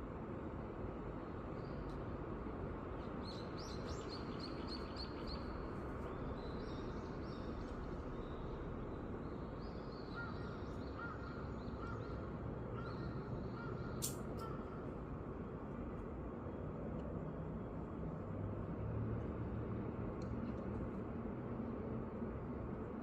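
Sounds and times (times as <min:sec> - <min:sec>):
city noise hum: 0:00.0 - 0:23.0.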